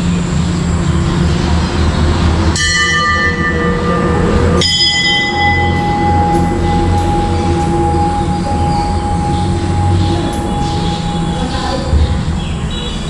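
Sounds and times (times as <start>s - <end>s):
steady low rumble: 0.0s - 13.0s
temple bell ringing: 2.5s - 13.0s.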